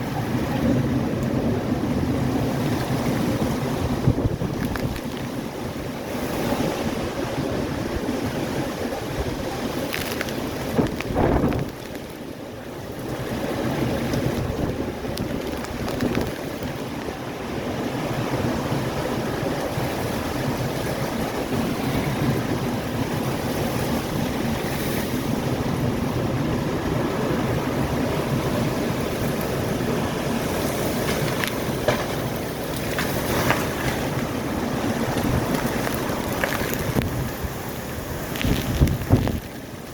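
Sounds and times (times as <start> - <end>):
strong wind buffeting microphone: 0.0 - 39.9.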